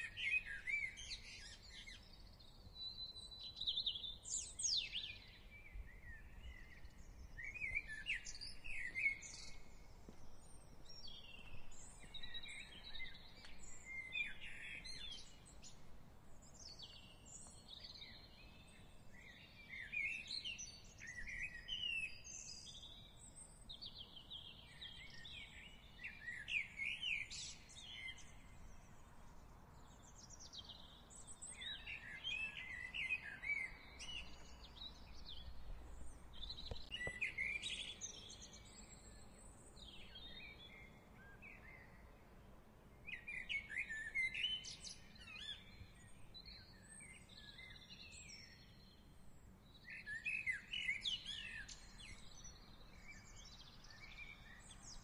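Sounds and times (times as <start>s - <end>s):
faint low background noise: 0.0s - 55.0s
songbirds singing and chirping: 0.0s - 55.0s.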